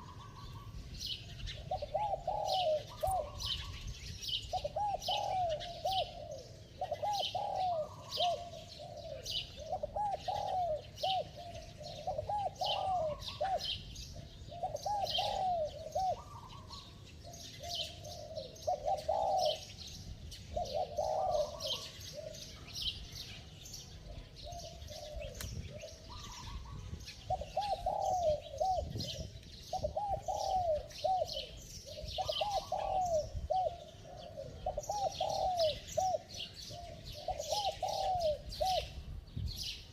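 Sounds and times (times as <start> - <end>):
dove cooing: 0.0 - 39.7
small birds chirping: 0.0 - 39.9.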